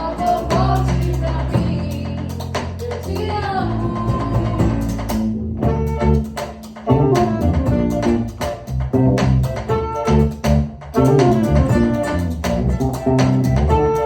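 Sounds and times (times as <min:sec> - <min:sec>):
bass guitar: 0:00.0 - 0:14.0
guitar: 0:00.0 - 0:14.0.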